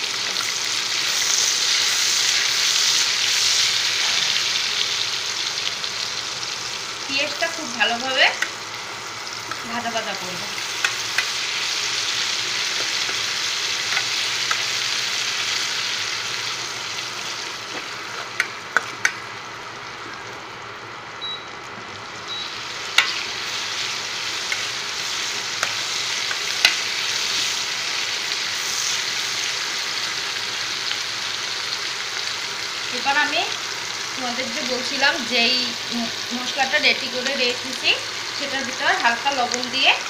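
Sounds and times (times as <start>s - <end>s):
onions sizzling in hot oil: 0.0s - 40.0s.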